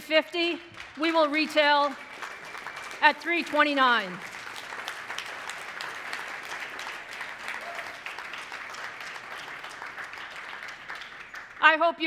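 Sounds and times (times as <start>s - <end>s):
audience applauding: 0.7s - 11.6s.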